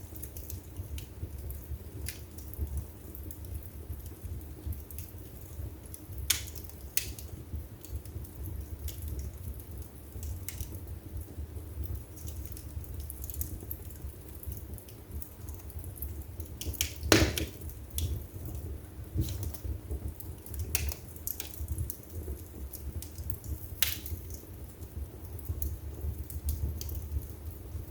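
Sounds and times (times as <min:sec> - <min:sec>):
fire crackles and pops: 0:00.0 - 0:27.9
low rumble of flames: 0:00.0 - 0:27.9.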